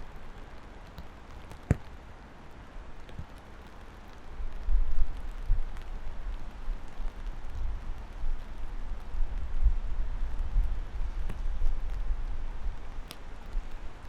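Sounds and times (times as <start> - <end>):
rain hiss: 0.0 - 14.0.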